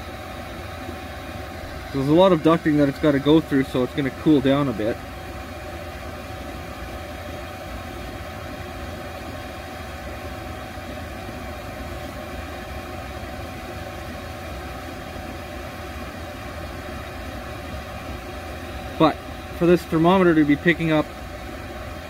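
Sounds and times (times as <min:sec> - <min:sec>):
air heater fan whirring: 0:00.0 - 0:22.0.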